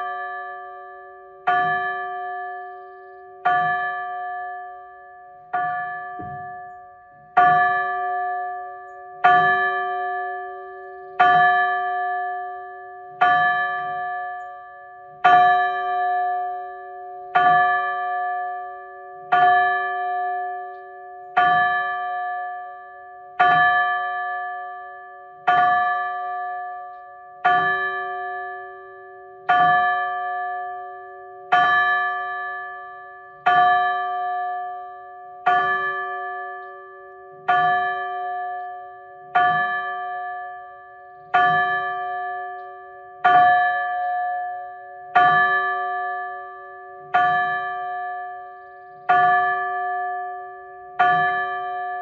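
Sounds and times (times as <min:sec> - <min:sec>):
church bell tolling: 0:00.0 - 0:52.0.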